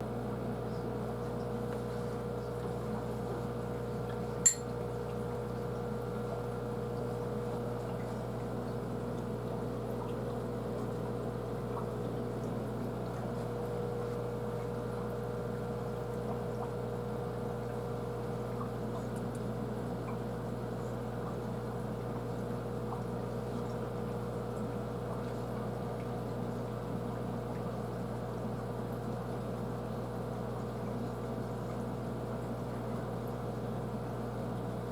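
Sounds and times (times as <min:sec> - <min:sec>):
aquarium pump hum: 0:00.0 - 0:34.9.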